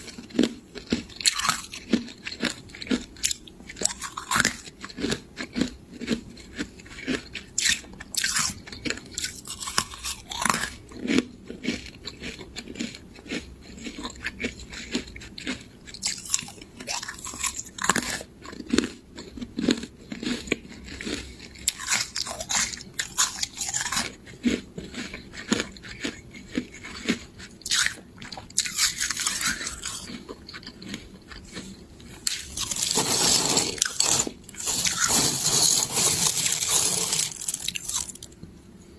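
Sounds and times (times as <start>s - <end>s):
crunching frost while chewing: 0.0s - 38.9s.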